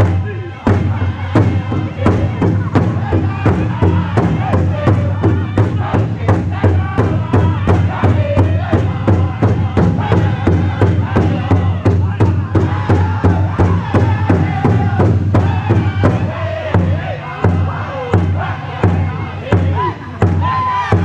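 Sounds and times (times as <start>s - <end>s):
group singing high-pitched phrases: 0.0s - 21.0s
large hand drum beating: 0.0s - 21.0s.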